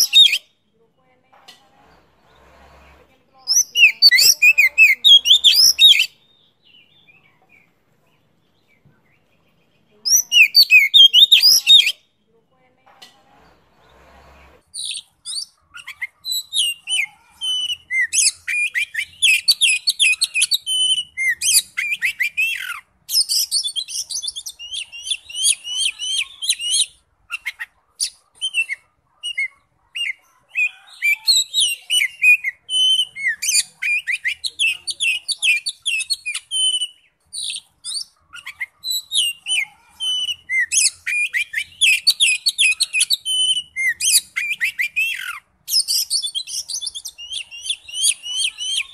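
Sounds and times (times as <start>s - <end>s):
songbird singing whistled trills: 3.5s - 9.3s, 10.1s - 12.0s, 14.8s - 48.9s.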